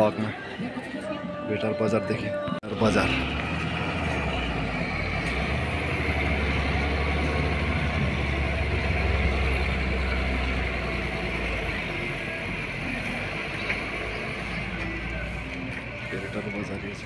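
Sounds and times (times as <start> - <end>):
truck diesel engine rumbling: 2.6 - 17.0.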